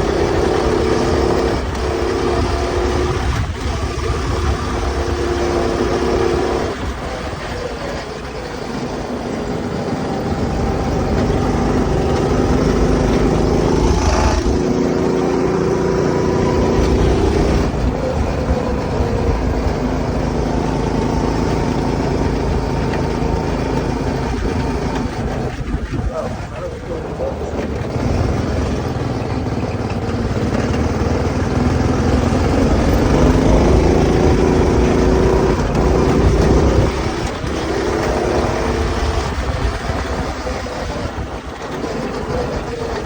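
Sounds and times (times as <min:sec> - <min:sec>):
go-kart engine revving: 0:00.0 - 0:43.0.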